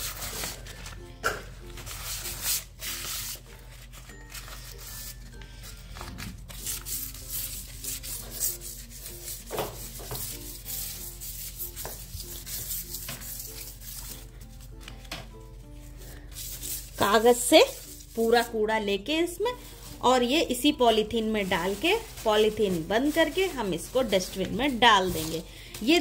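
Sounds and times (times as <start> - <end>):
wet paper scrubbing tile floor: 0.0 - 1.0, 1.6 - 14.4, 16.0 - 18.6, 20.9 - 26.0
background music: 0.0 - 26.0.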